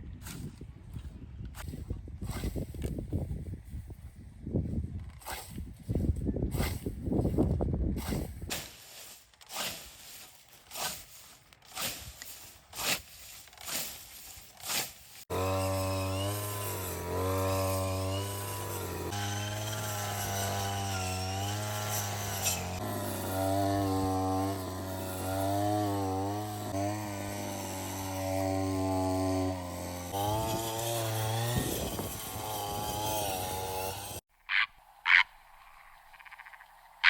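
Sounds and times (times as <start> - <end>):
brushcutter engine cutting grass: 0.2 - 3.1, 4.8 - 34.3.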